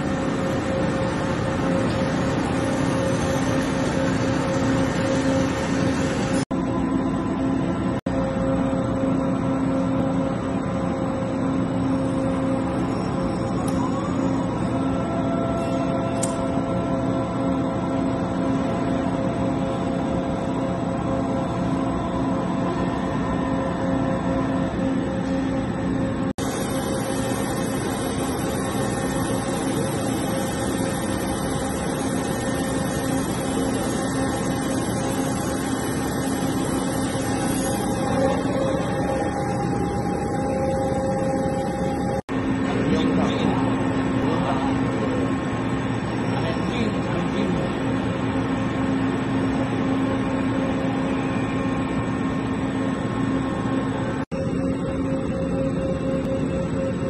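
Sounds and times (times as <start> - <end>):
boring mill humming and whirring: 0.0 - 57.0.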